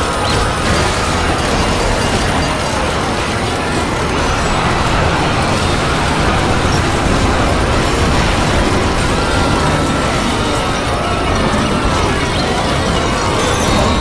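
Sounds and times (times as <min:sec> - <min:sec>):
dense wash of cartoon soundtracks: 0:00.0 - 0:14.0.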